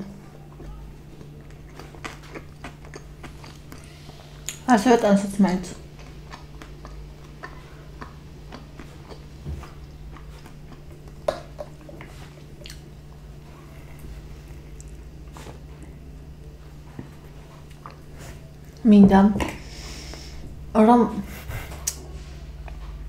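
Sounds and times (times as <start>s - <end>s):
close chewing sounds: 0.0s - 18.8s
steady low hum: 0.0s - 23.0s.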